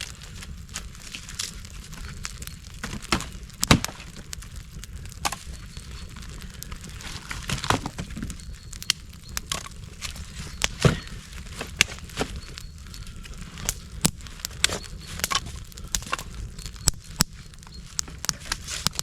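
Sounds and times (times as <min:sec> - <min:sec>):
dry sticks snapping: 0:00.0 - 0:19.0.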